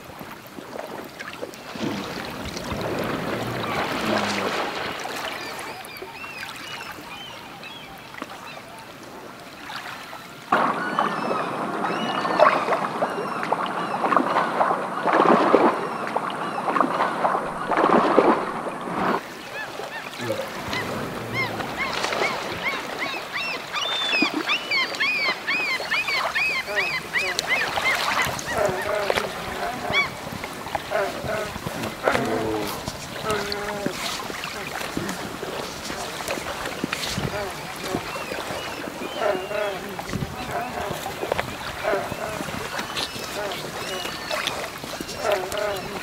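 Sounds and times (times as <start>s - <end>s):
underwater rush with bubbling: 0.0s - 6.4s, 10.5s - 46.0s
river water running: 0.0s - 46.0s
birds chirping: 1.8s - 8.7s, 15.8s - 46.0s.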